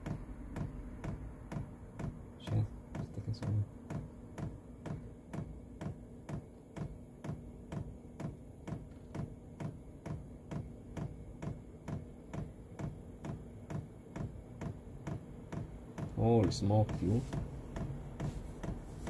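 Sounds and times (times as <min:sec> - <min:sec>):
fuel pump ticking: 0:00.0 - 0:19.0.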